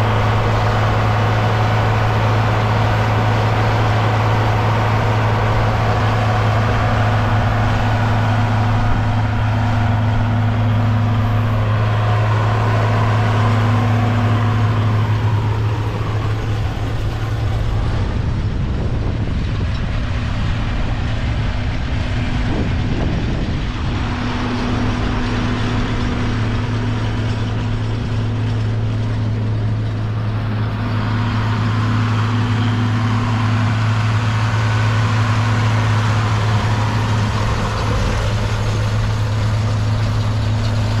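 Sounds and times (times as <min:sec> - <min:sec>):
tractor diesel engine drone: 0:00.0 - 0:41.0.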